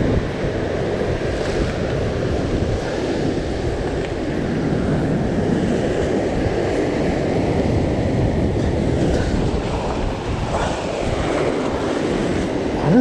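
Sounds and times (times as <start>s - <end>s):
surf crashing on rocks: 0.0s - 13.0s
wind buffeting microphone: 0.0s - 13.0s.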